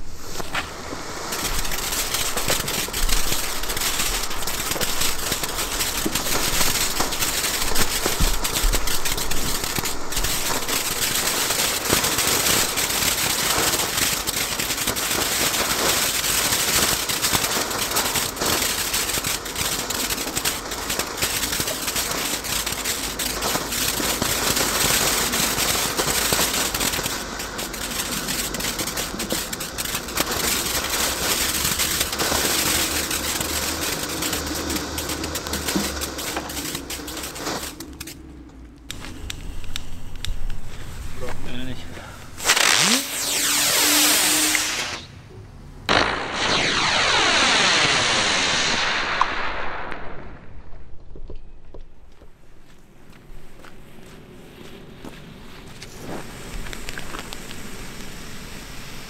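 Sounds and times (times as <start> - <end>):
crackles and small pops: 0.0 - 45.1, 45.9 - 58.9
firework fountains hissing: 0.0 - 45.3, 45.9 - 50.2, 53.3 - 59.0.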